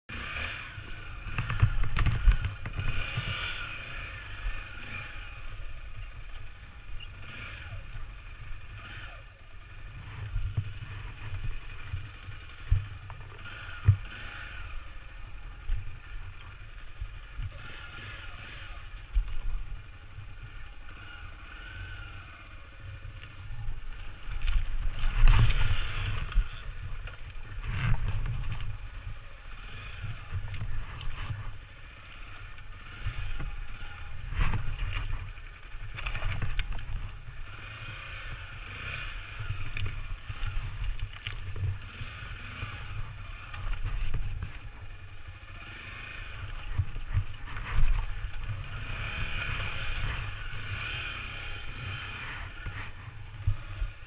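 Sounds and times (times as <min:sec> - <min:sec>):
dirt bike engine revving: 0:00.1 - 0:54.0.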